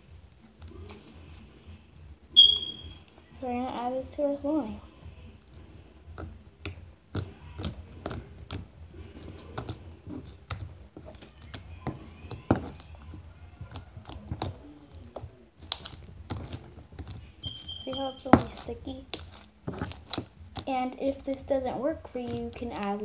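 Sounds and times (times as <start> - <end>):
sticky slime squelching: 0.0 - 23.0.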